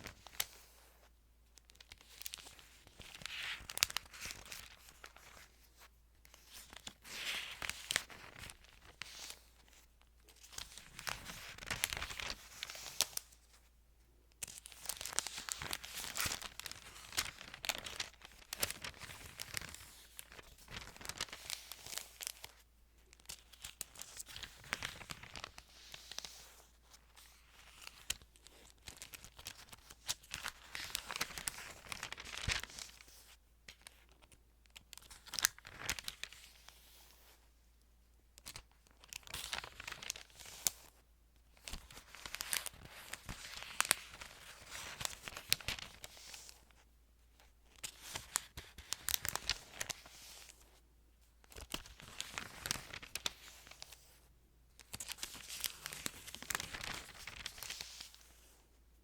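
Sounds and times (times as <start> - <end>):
thin pages rustling: 0.0 - 13.7, 14.4 - 37.4, 38.4 - 41.0, 41.6 - 46.8, 47.4 - 50.8, 51.4 - 58.6.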